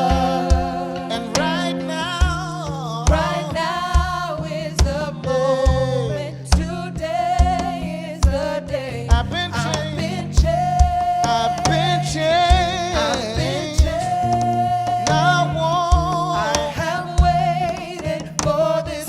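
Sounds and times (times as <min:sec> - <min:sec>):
steady kick drum: 0:00.0 - 0:01.6, 0:02.2 - 0:18.6
band with bass: 0:00.0 - 0:19.0
person singing with vibrato: 0:00.0 - 0:19.0.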